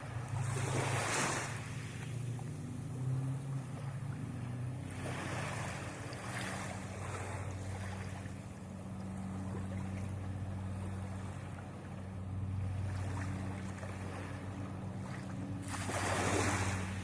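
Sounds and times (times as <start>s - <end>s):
small waves washing onto sand: 0.0s - 17.0s
steady low mechanical hum: 1.4s - 17.0s.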